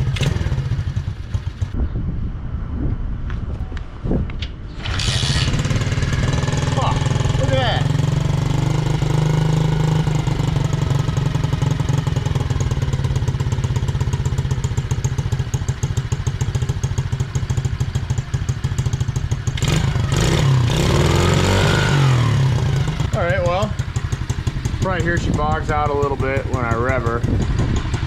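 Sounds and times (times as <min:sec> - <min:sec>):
motorcycle engine idling and revving: 0:00.0 - 0:02.1, 0:04.7 - 0:28.0.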